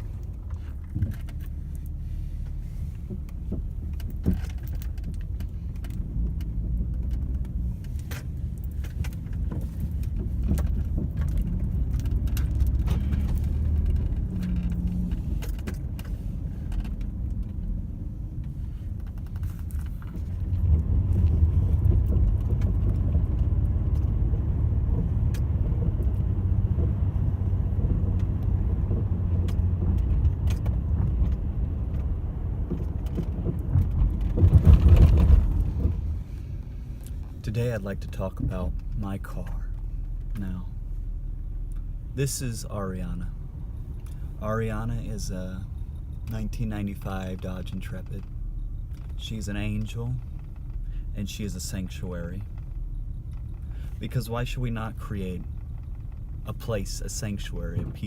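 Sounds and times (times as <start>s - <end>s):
light clicking and rattling: 0.0s - 42.6s, 43.2s - 58.0s
road and engine rumble in car cabin: 0.0s - 58.0s.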